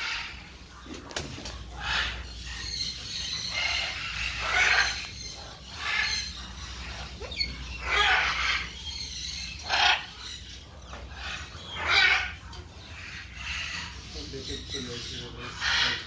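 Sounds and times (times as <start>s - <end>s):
parrots squawking: 0.0s - 16.0s.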